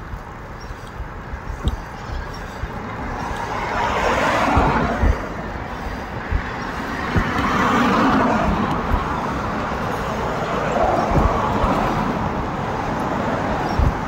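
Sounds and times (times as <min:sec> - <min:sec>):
passing cars: 0:00.0 - 0:14.0
low thumps: 0:01.0 - 0:14.0.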